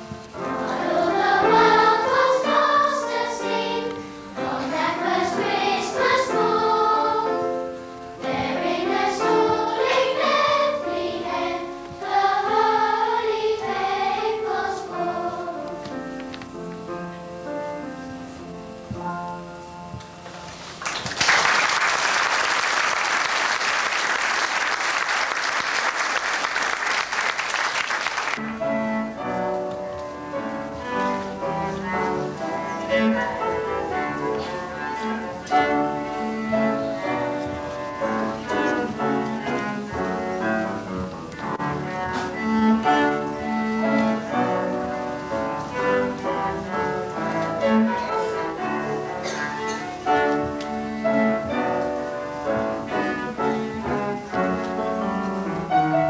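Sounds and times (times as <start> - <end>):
instrumental music: 0.0 - 21.1, 28.3 - 56.0.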